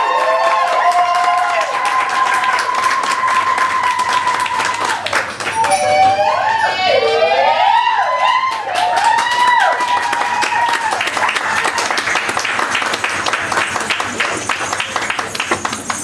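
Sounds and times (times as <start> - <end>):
audience clapping and cheering: 0.0 - 16.0.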